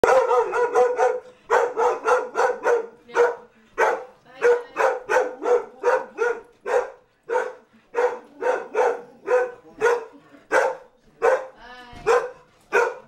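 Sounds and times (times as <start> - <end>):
dog barking excitedly: 0.0 - 13.0.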